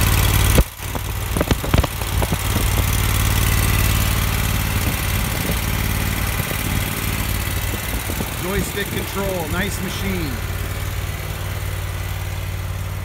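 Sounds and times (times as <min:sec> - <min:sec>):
mower engine running: 0:00.0 - 0:13.0.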